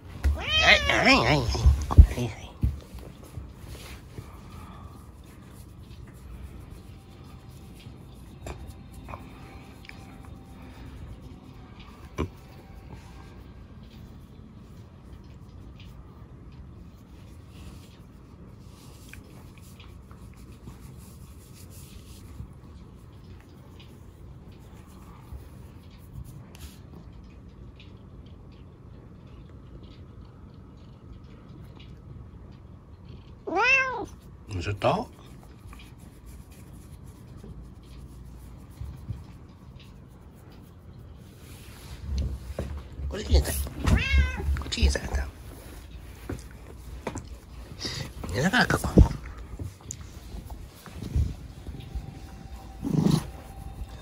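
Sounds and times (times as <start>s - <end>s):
fingers rubbing cat fur: 0.0s - 27.6s, 34.0s - 54.0s.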